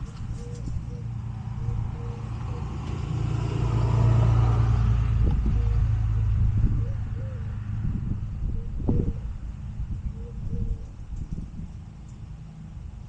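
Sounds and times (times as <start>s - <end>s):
car engine humming: 0.0s - 10.5s.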